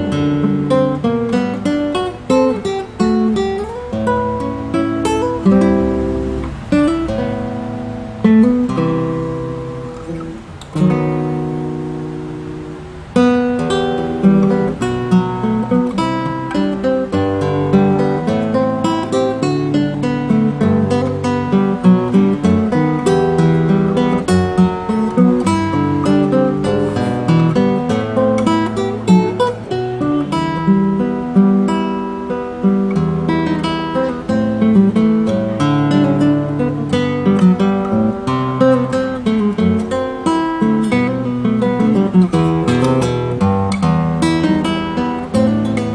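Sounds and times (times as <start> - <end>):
classical guitar played fingerstyle: 0.0 - 45.9.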